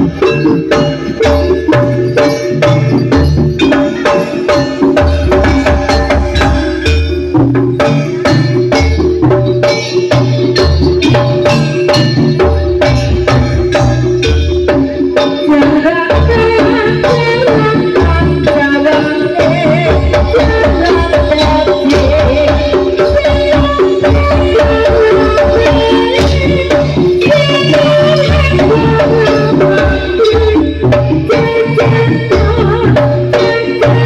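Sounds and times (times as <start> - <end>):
drums and gamelan percussion: 0.0 - 34.0.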